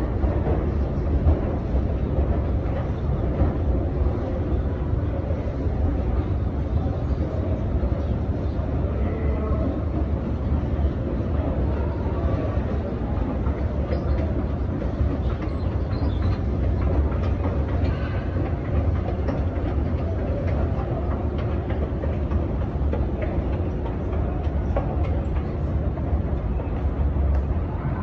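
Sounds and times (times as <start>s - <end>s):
low machinery rumble: 0.0s - 28.0s.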